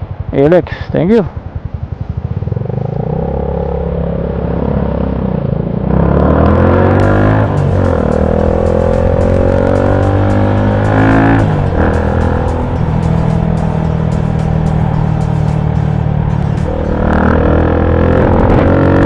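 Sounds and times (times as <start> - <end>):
motorcycle engine accelerating: 1.3 - 19.0.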